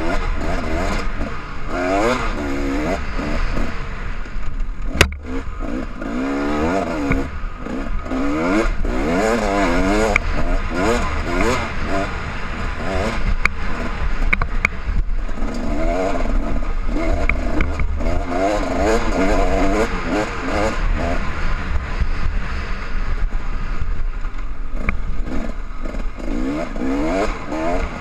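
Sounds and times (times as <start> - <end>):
low wind rumble: 0.0 - 28.0
motorcycle engine revving: 0.0 - 28.0.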